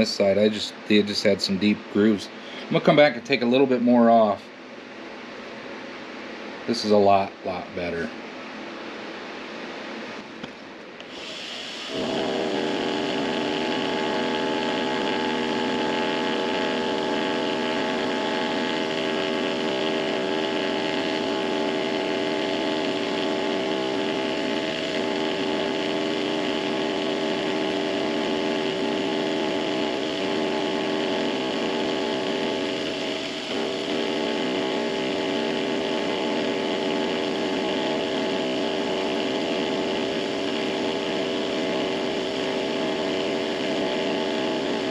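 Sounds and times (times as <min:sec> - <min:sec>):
benchtop machine tool whining: 0:00.0 - 0:04.4, 0:10.4 - 0:44.9.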